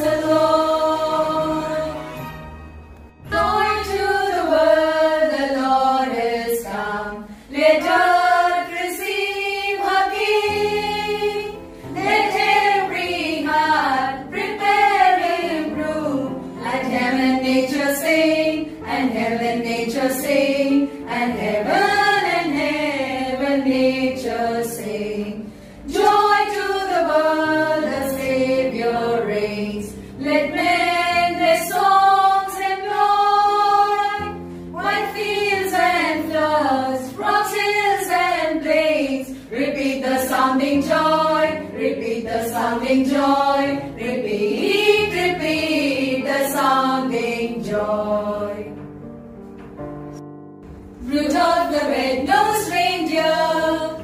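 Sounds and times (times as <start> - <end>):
women's choir singing carols: 0.0 - 2.4, 3.2 - 48.8, 51.0 - 54.0.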